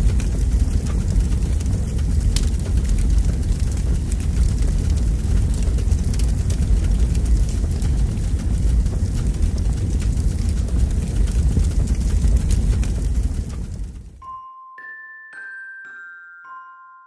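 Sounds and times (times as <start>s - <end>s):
faint crackles: 0.0s - 14.2s
wind buffeting microphone: 0.0s - 14.2s.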